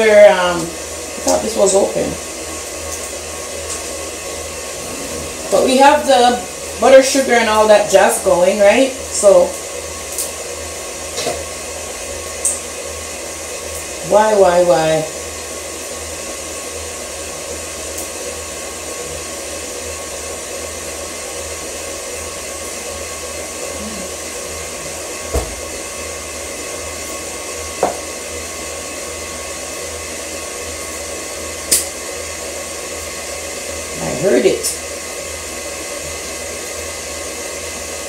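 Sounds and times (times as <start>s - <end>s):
electric stand mixer running: 0.0s - 38.0s.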